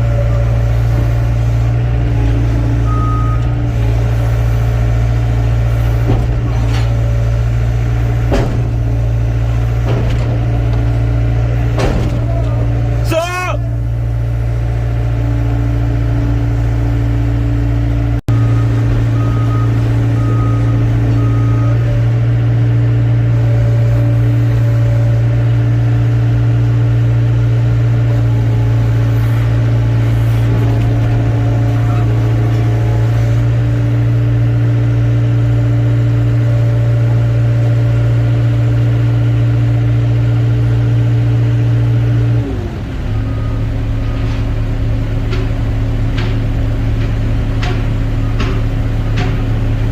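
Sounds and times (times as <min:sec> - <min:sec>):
excavator engine and hydraulics: 0:00.0 - 0:49.9.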